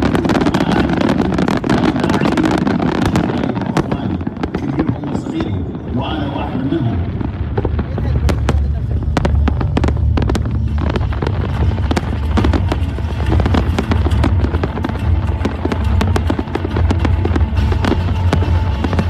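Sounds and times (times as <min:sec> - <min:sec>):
deep rumble: 0:00.0 - 0:19.0
fireworks crackling and popping: 0:00.0 - 0:19.0.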